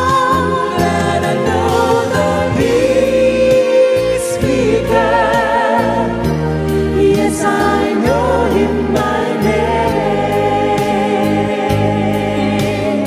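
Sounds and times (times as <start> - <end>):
worship music with wordless singing: 0.0 - 13.0.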